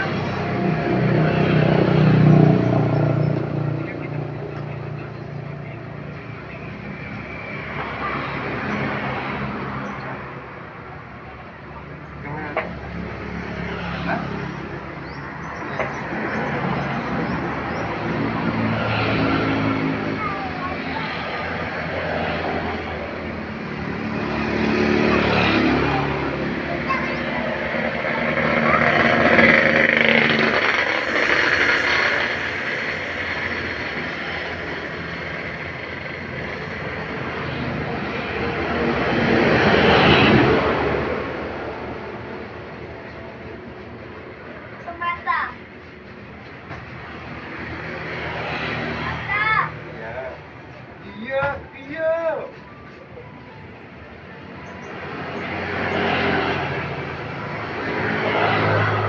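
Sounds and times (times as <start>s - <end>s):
heavy vehicle engine approaching: 0.0s - 59.0s.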